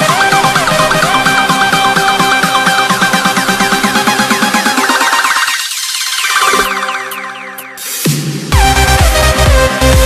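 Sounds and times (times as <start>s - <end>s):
falling synth sweeps: 0.0s - 8.3s
electronic dance music: 0.0s - 10.0s.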